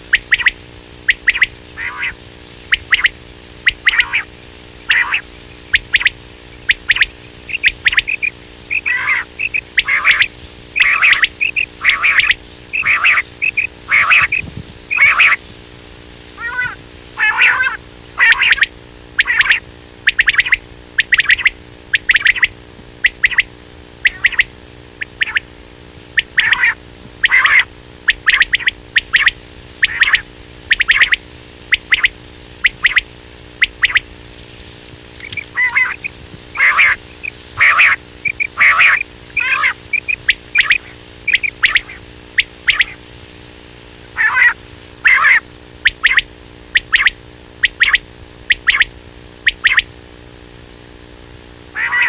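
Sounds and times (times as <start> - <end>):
quail calling: 0.0 - 43.2, 43.9 - 50.0, 51.6 - 52.0
steady low hum: 0.0 - 52.0.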